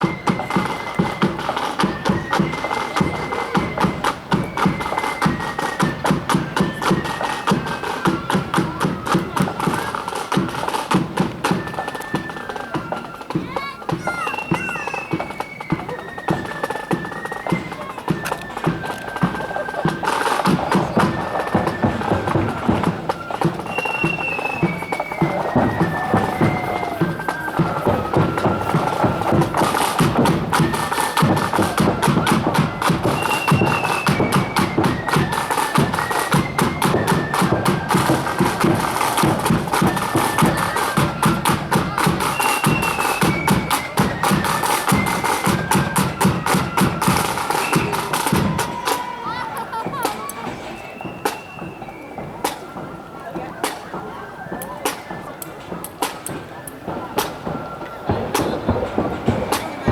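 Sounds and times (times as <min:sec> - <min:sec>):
high flutes playing: 0:00.0 - 0:59.9
snare and bass drumming: 0:00.0 - 0:59.9.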